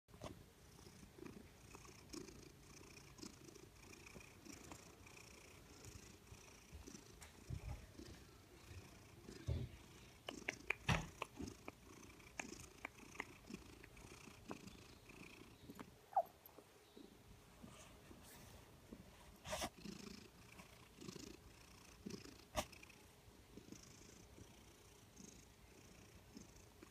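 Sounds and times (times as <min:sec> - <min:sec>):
cat purring: 0:00.2 - 0:26.9.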